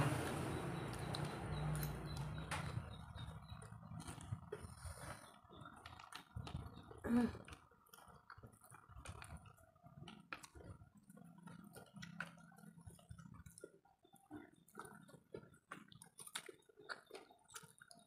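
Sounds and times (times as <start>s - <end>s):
chewing and slurping noodles: 0.1s - 18.0s.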